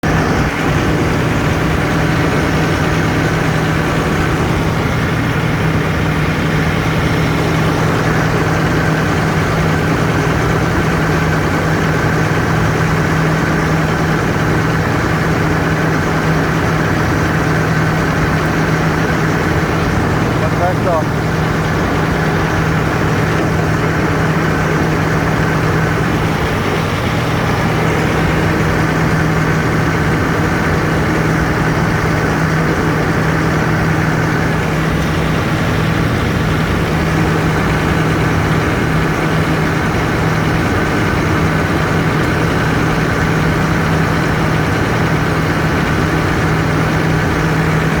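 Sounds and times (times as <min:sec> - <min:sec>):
briquetting machine running: 0:00.0 - 0:48.0
constant low hum: 0:00.0 - 0:48.0.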